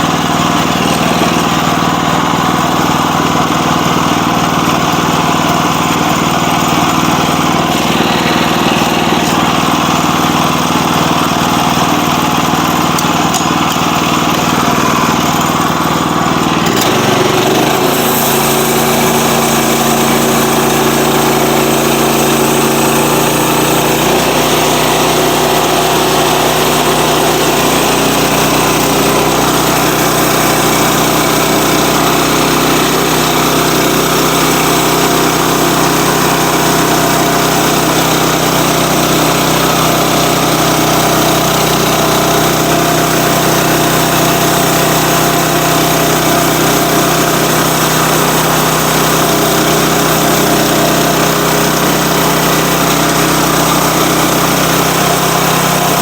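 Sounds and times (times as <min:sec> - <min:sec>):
log being sawn: 0:00.0 - 0:56.0
sawmill engine running: 0:00.0 - 0:56.0.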